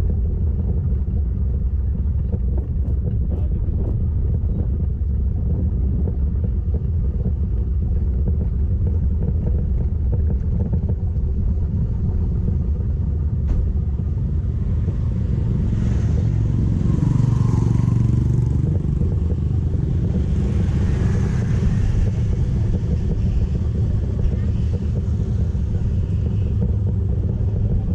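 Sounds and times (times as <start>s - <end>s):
motorcycle engine drone: 0.0s - 27.9s
wind rumble on microphone: 0.0s - 27.9s.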